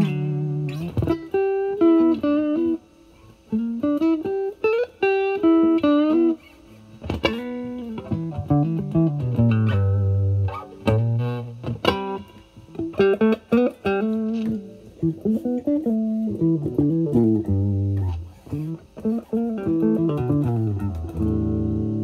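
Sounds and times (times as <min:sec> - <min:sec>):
bluesy electric guitar lead: 0:00.0 - 0:22.0.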